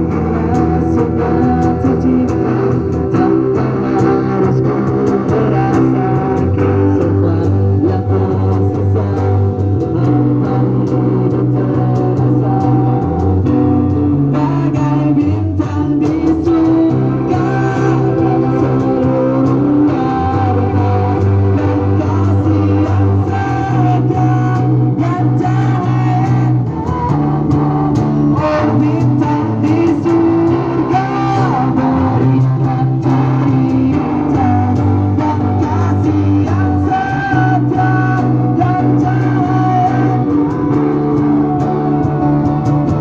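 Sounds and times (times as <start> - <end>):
loud pop-rock song: 0.0 - 43.0.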